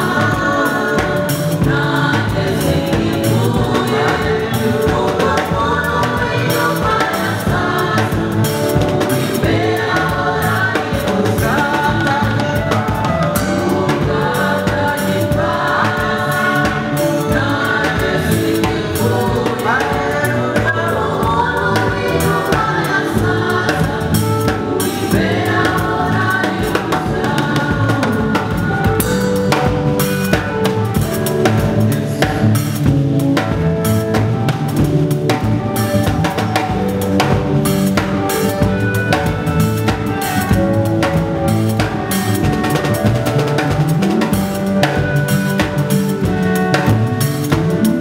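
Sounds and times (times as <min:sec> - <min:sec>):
drum kit beat: 0:00.0 - 0:48.0
gospel music: 0:00.0 - 0:48.0.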